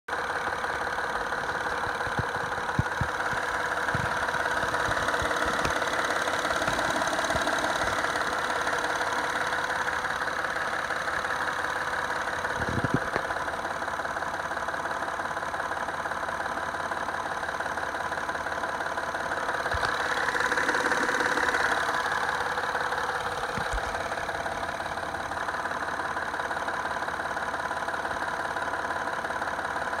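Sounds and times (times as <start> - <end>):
car engine idling: 0.1 - 30.0
loud engine knocking: 0.1 - 30.0.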